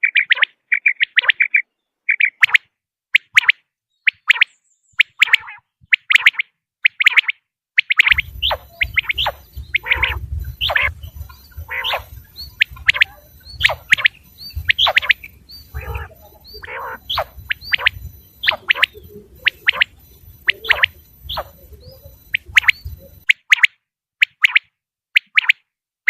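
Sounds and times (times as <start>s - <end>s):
quail chirping: 0.0s - 25.6s.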